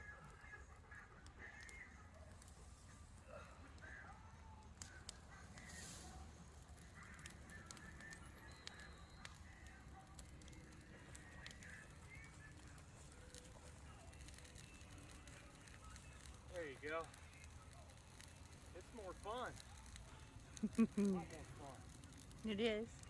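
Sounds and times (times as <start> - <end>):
bonfire crackling: 0.0 - 23.0.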